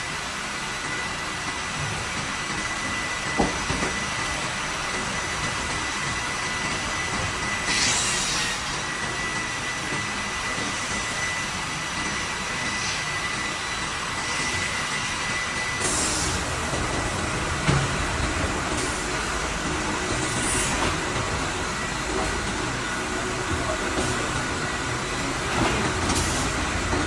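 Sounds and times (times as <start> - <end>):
machinery running: 0.8 - 27.0.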